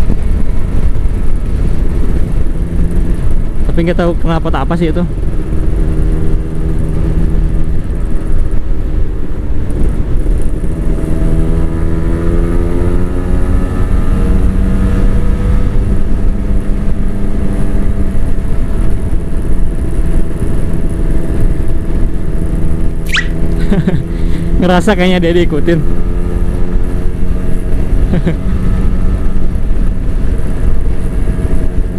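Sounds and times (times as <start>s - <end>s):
motorcycle engines running: 0.0s - 31.9s
wind rushing on microphone: 0.0s - 31.9s.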